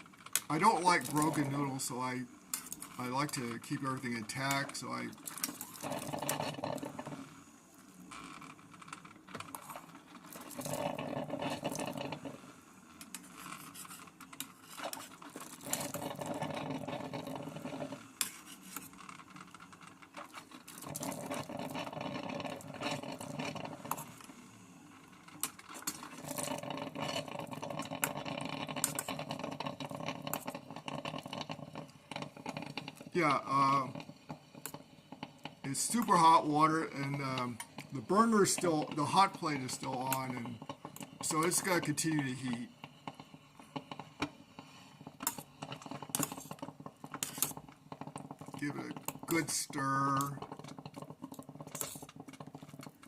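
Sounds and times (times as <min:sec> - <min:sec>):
utensil scraping a saucepan: 0:00.5 - 0:07.2, 0:09.4 - 0:12.4, 0:13.1 - 0:24.2, 0:25.4 - 0:53.0.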